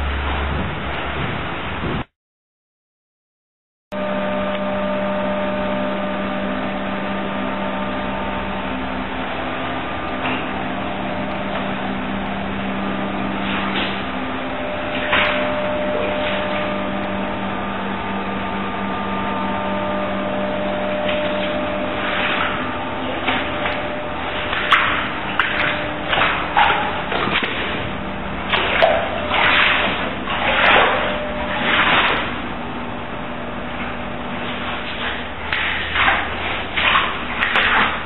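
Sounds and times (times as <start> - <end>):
mechanical hum: 0.0 - 2.1, 3.9 - 38.0.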